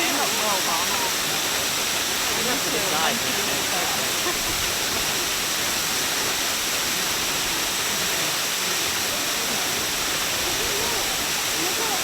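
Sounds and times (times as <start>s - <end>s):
waterfall hissing into pool: 0.0s - 12.0s.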